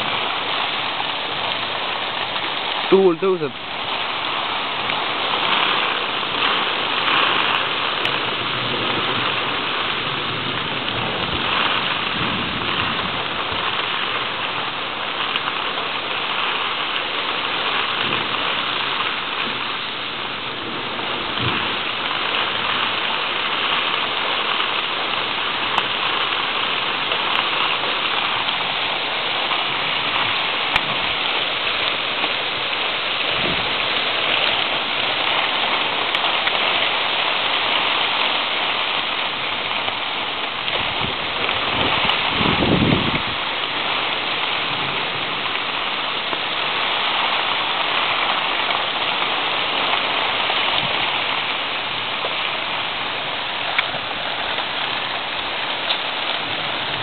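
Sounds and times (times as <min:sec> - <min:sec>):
steady rain pouring: 0:00.0 - 0:57.0.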